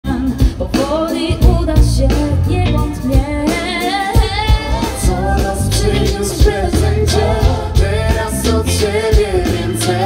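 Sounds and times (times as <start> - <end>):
live pop band playing: 0.0 - 10.0
people singing: 0.1 - 10.0.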